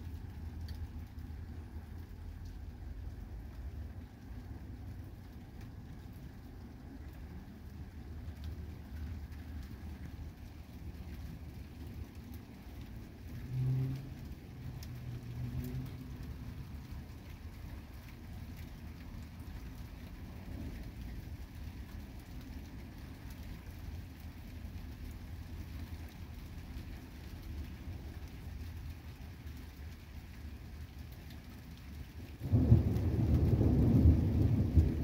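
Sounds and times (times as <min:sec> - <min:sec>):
constant low rumble: 0:00.0 - 0:35.0
light rain falling: 0:00.0 - 0:35.0.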